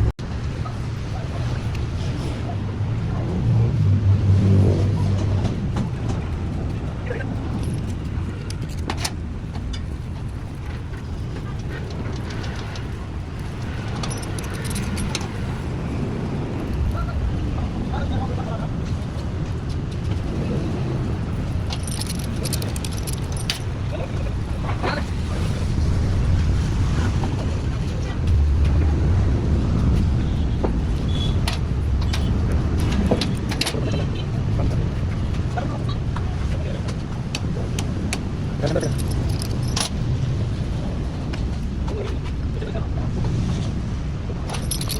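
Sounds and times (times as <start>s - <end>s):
low mechanical rumble: 0.9s - 44.9s.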